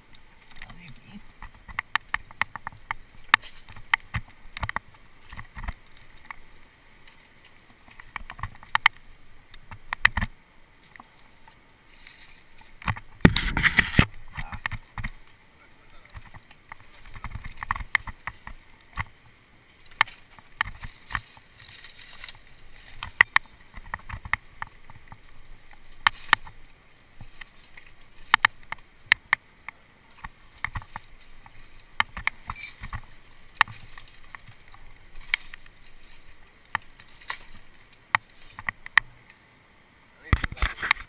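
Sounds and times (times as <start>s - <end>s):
climbing gear clicking: 0.0s - 39.4s
rustling through dry leaves: 0.0s - 39.5s.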